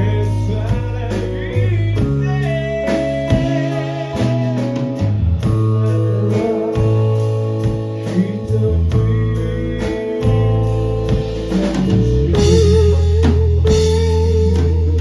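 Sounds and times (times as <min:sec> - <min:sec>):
bass guitar: 0:00.0 - 0:15.0
drum kit beat: 0:00.0 - 0:15.0
electric guitar chords: 0:00.0 - 0:15.0.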